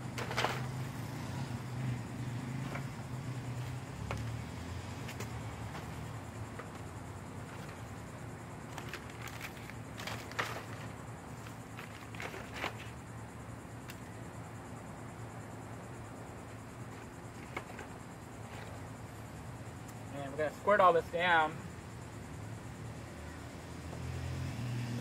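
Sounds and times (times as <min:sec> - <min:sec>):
insects: 0:00.0 - 0:25.0.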